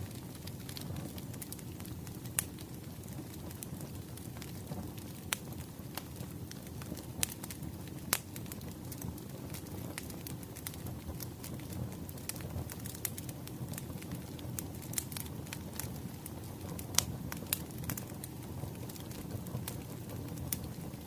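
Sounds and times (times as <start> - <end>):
firewood burning and crackling: 0.0 - 21.0
sharp pops of fire: 0.1 - 21.0.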